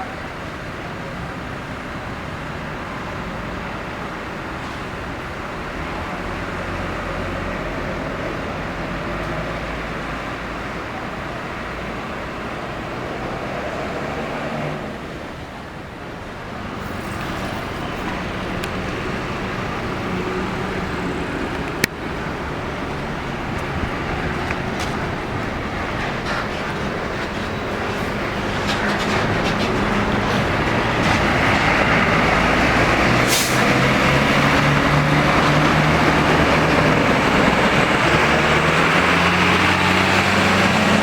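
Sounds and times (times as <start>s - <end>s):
bus engines running: 0.0s - 41.0s
road traffic noise: 0.0s - 41.0s.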